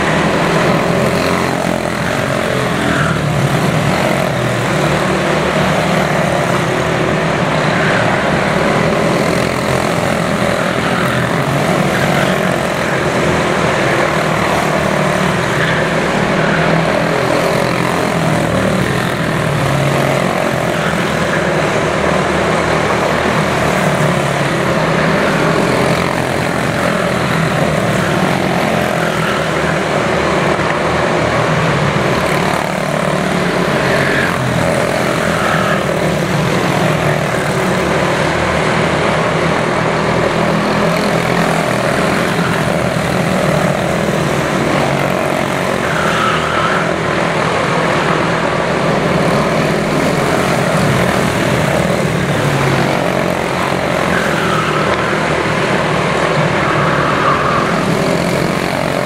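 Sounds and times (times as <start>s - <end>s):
race car engines droning: 0.0s - 59.0s.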